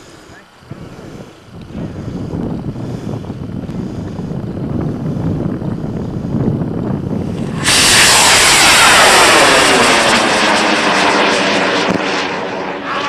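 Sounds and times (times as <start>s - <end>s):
rocket motor roaring: 0.0s - 13.0s.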